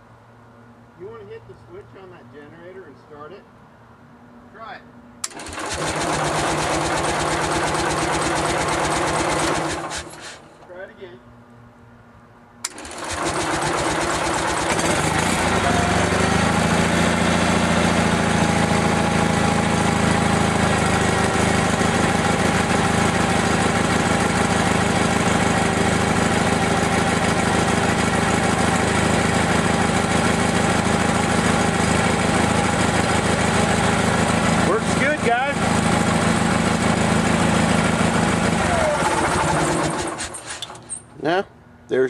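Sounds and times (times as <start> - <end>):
generator engine cranking and running: 5.2 - 10.7, 12.6 - 41.2.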